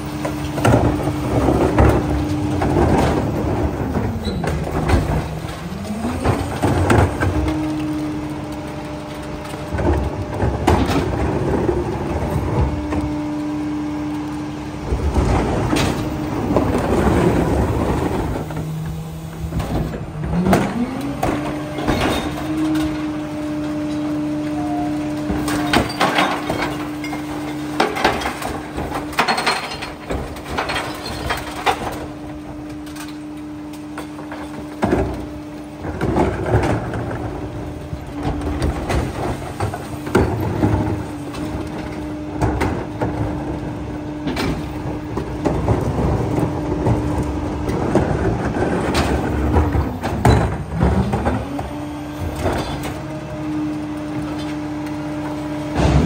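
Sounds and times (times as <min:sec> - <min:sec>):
carts banging against hopper: 0:00.0 - 0:13.6, 0:14.8 - 0:56.0
garbage truck engine and hydraulics: 0:00.0 - 0:56.0.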